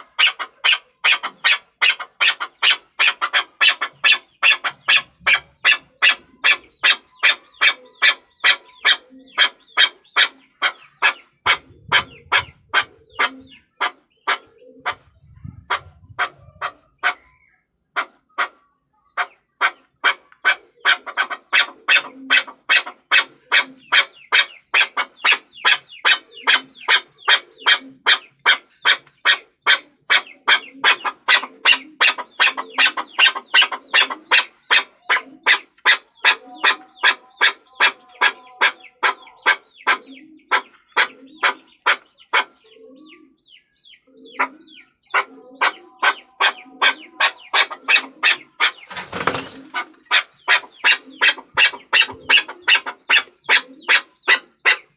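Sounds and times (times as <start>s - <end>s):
partridge chucking calls: 0.0s - 54.9s.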